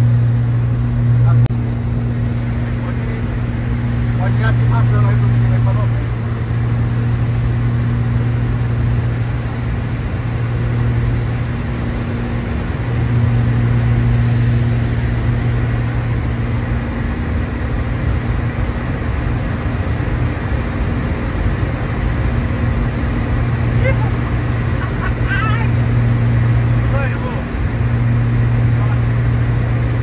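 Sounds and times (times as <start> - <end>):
aircraft engines droning: 0.0 - 30.0.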